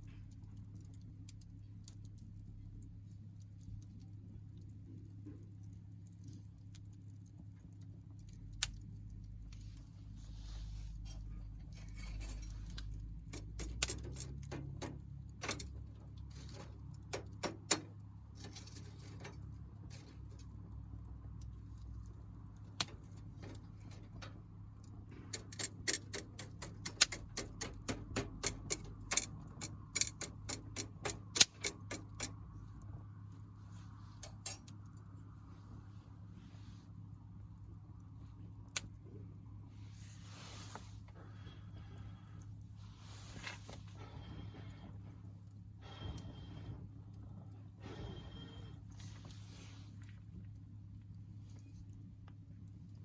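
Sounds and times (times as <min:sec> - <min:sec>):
low steady hum: 0:00.0 - 0:53.0
wood fire crackling: 0:00.0 - 0:53.0.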